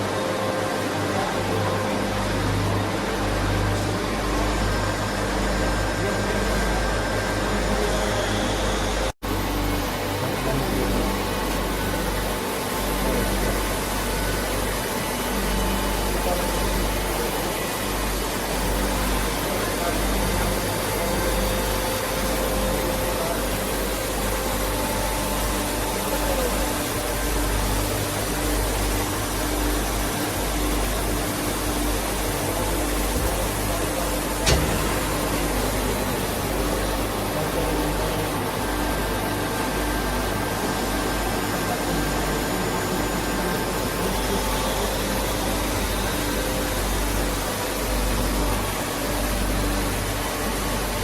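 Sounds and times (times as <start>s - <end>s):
machinery humming and hissing: 0.0s - 51.0s.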